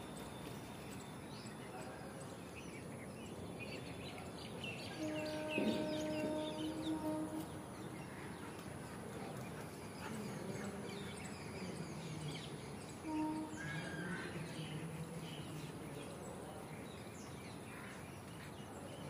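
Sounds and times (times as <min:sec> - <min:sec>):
low background murmur: 0:00.0 - 0:19.0.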